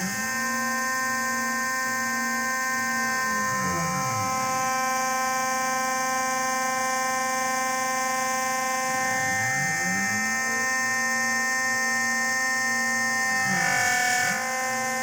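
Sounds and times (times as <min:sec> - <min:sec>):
milling machine spindle whine: 0:00.0 - 0:15.0
motor hum gliding in pitch: 0:00.0 - 0:15.0.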